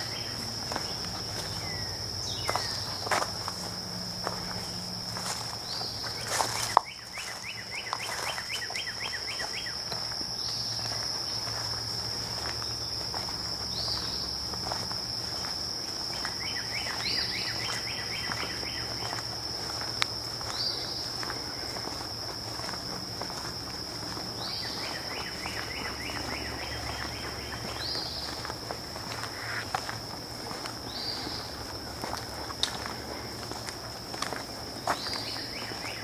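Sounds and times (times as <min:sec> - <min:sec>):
birds calling: 0:00.0 - 0:36.0
crickets chirping: 0:00.0 - 0:36.0
footsteps on path: 0:00.0 - 0:36.0.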